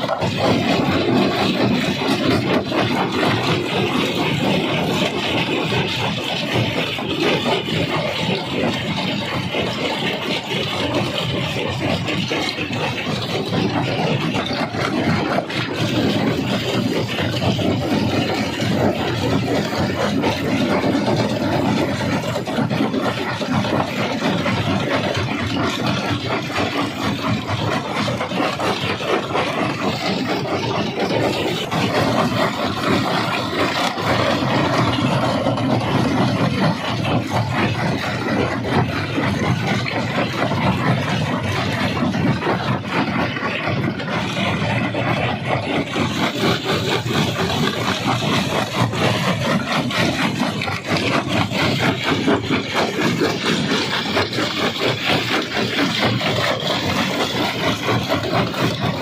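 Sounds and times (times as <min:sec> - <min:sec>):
rock crusher rumbling: 0:00.0 - 0:59.0.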